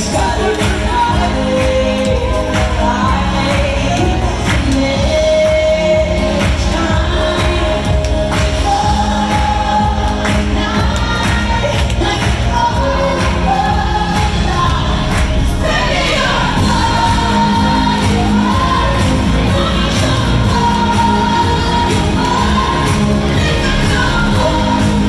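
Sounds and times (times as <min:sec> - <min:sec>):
backing singers: 0:00.0 - 0:25.0
drums: 0:00.0 - 0:25.0
woman singing: 0:00.0 - 0:25.0.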